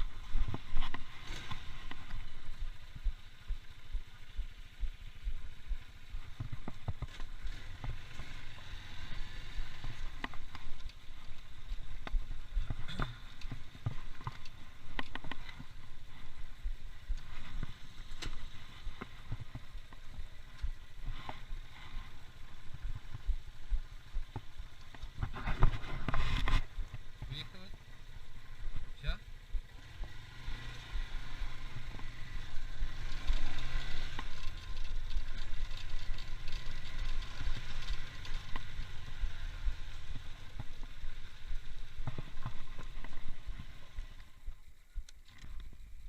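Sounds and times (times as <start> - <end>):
faint scooter engine whine: 0.0 - 46.0.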